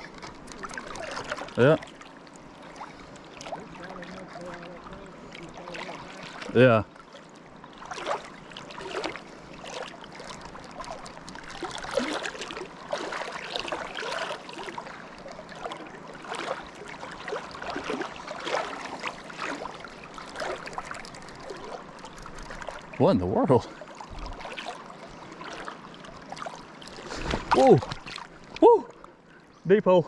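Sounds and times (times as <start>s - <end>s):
water splashing and gurgling: 0.0s - 29.4s
flowing water rushing: 0.0s - 30.0s.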